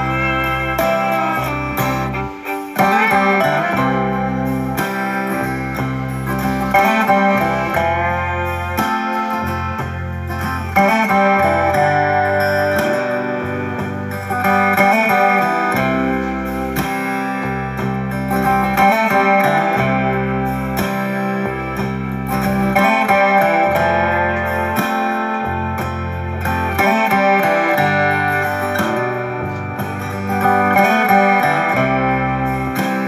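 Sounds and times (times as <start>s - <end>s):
instrumental guitar music: 0.0s - 33.0s.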